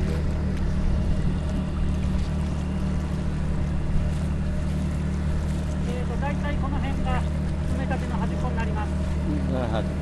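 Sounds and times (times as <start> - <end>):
small boat engine droning: 0.0 - 10.0.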